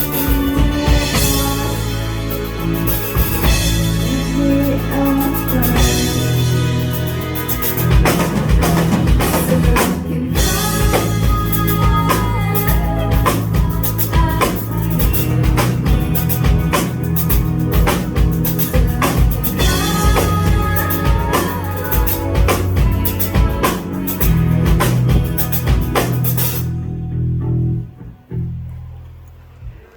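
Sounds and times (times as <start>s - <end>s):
drum kit beat: 0.0s - 26.8s
bass guitar: 0.0s - 29.9s
guitar: 0.0s - 29.9s.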